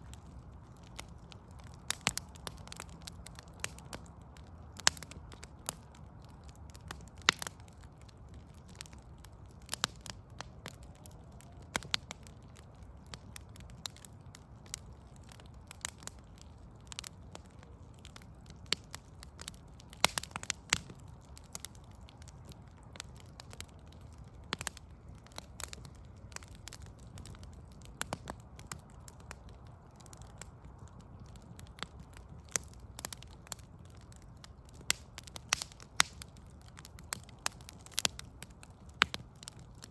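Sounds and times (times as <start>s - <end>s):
log fire crackling and popping: 0.0s - 39.9s
low rumble of fire: 0.0s - 39.9s.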